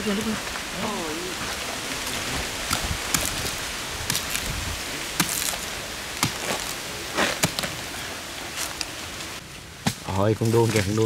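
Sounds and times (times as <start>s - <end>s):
palm trunk cracking: 2.0s - 11.0s.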